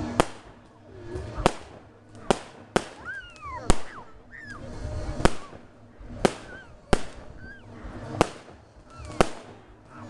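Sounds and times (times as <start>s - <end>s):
firework falling whistles: 0.0s - 10.0s
firework shells bursting: 0.0s - 10.0s.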